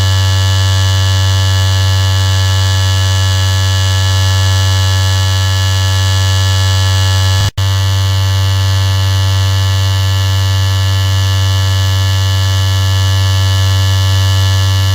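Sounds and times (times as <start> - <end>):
electric shaver buzzing: 0.0 - 3.3, 3.9 - 14.9.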